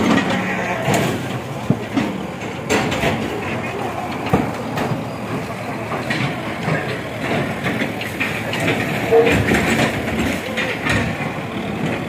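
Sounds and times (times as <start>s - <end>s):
diesel engine running: 0.0s - 12.0s
machine clanking and rattling: 0.0s - 12.0s.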